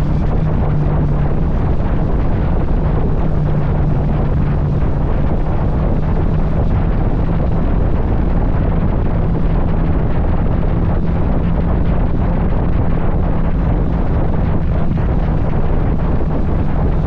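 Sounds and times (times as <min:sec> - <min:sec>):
motorcycle engine droning: 0:00.0 - 0:17.0
wind rushing over microphone: 0:00.0 - 0:17.0.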